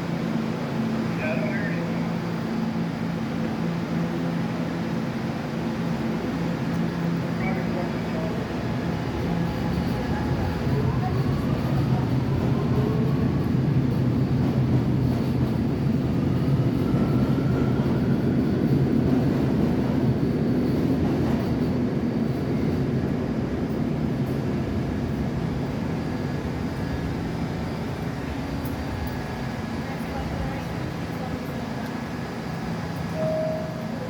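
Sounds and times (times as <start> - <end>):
subway train rumble and hum: 0.0 - 34.0.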